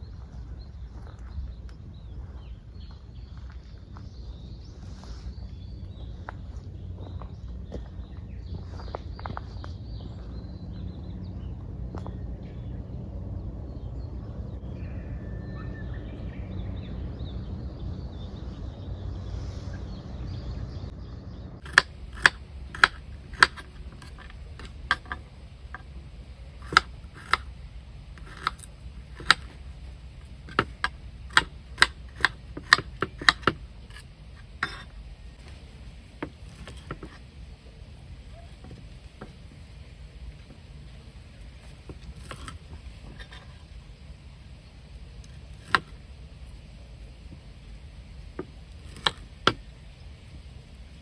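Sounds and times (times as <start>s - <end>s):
low steady rumble: 0.0s - 51.0s.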